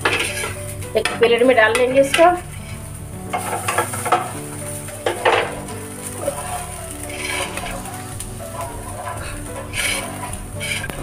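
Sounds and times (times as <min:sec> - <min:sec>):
background music held notes: 0:00.0 - 0:11.0
frying pan and spatula clatter: 0:00.0 - 0:11.0.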